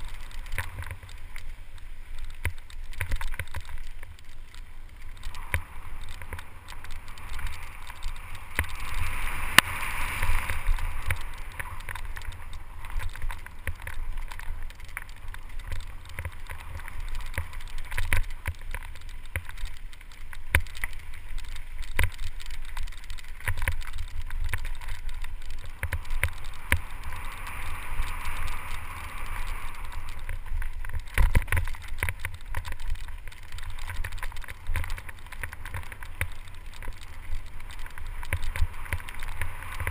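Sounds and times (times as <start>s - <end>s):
bike knocking and clattering: 0.0s - 39.9s
bike tyres on loose dirt: 0.0s - 39.9s
wind rumble on microphone: 0.0s - 39.9s.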